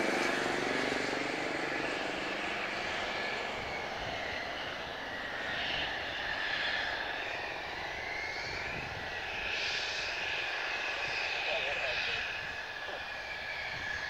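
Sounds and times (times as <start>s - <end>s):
jet engine whine: 0.0s - 14.0s.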